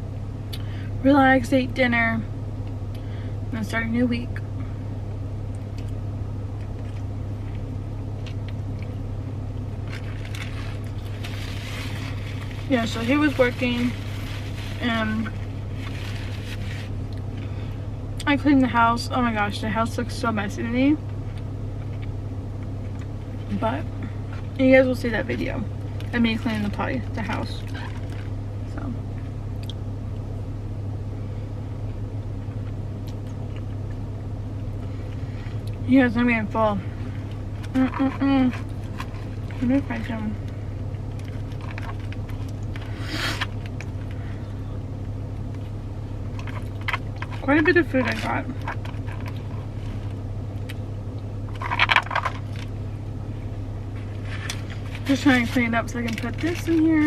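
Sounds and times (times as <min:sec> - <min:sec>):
car engine idling: 0:00.0 - 0:57.0
steady low hum: 0:00.0 - 0:57.0.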